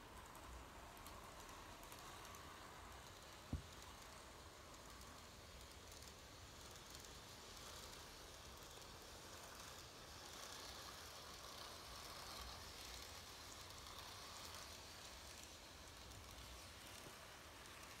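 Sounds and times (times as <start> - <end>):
model trains running on track: 0.0 - 18.0.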